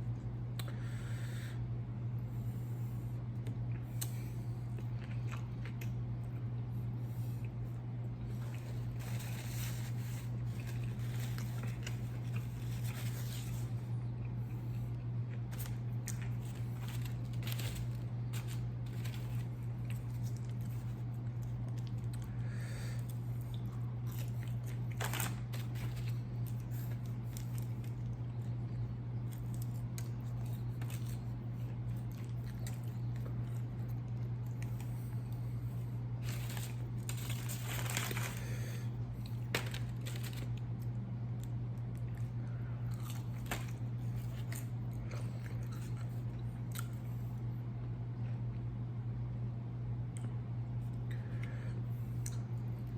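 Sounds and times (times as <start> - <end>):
steady low hum: 0.0 - 52.9
crunching and chewing food: 2.2 - 48.8, 50.0 - 52.9.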